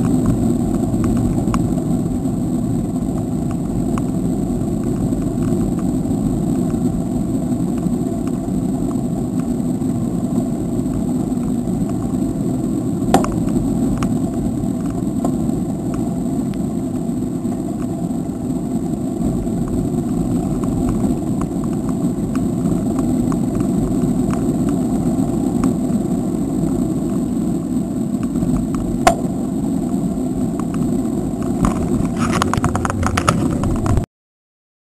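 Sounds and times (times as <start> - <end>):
bicycle tyres rolling on road: 0.0 - 34.1
wind rumble on microphone: 0.0 - 34.1.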